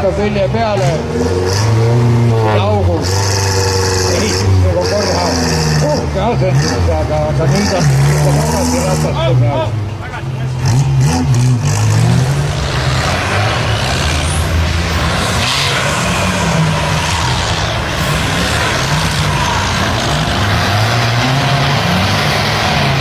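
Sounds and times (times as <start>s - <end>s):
off-road engines running hard: 0.0s - 23.0s.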